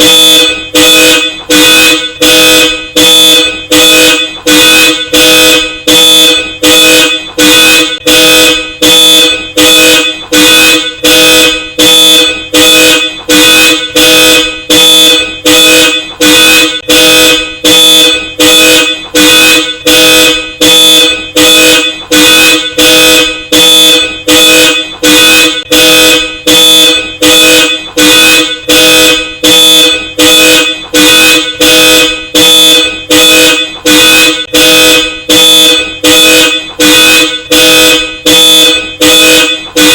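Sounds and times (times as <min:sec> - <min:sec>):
dual-tone car horns honking: 0:00.0 - 0:39.9.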